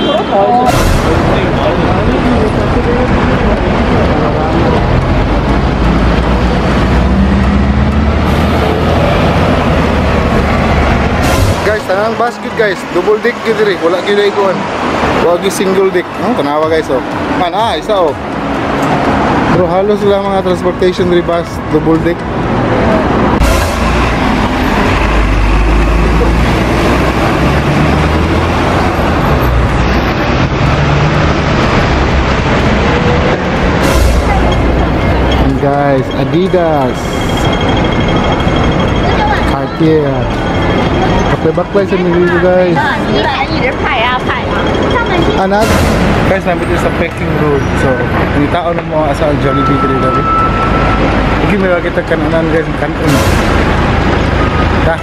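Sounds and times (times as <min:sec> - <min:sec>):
bus engine rumble: 0:00.0 - 0:55.0
road traffic: 0:00.0 - 0:55.0.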